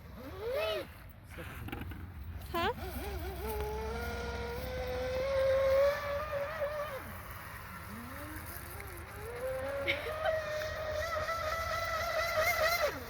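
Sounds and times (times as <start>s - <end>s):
electric motor whining: 0.0s - 1.0s, 2.5s - 13.0s.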